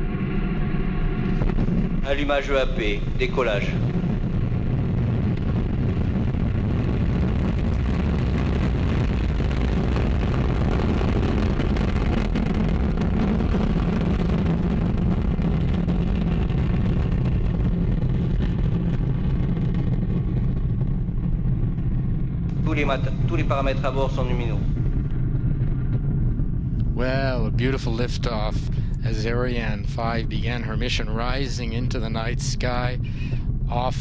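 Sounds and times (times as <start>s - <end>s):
rocket engines deep rumble: 0.0s - 34.0s.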